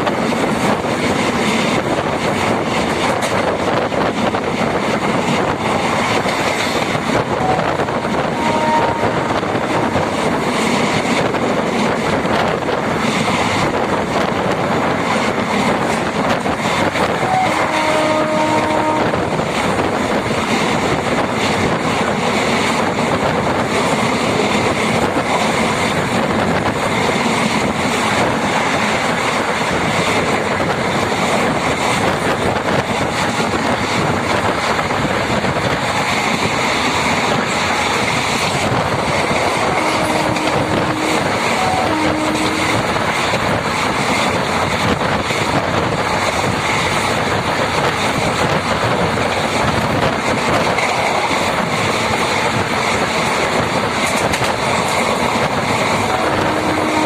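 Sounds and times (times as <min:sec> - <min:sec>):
train clickety-clack: 0:00.0 - 0:57.0
train wheels rumbling on rails: 0:00.0 - 0:57.0.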